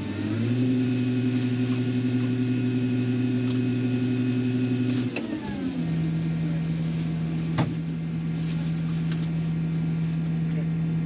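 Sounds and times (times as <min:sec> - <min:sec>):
farm machinery engine running: 0:00.0 - 0:10.2.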